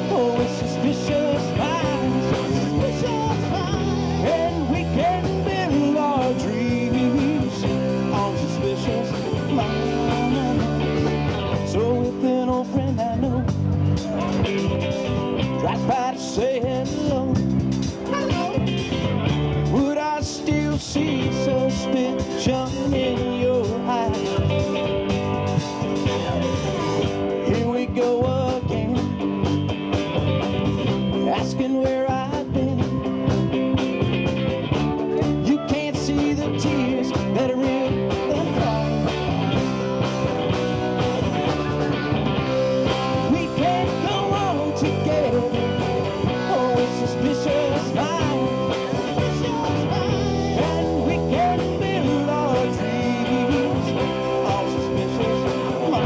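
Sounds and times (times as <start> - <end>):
man singing: 0.0 - 14.8, 15.4 - 25.2, 26.0 - 29.5, 30.2 - 33.5, 34.9 - 40.3, 41.2 - 56.0
live rock band playing: 0.0 - 56.0.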